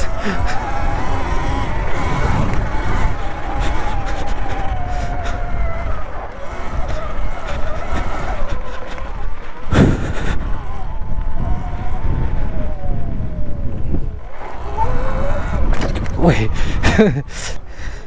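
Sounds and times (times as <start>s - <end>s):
electric motor whine: 0.0s - 17.7s
wind rumble on microphone: 0.0s - 18.0s.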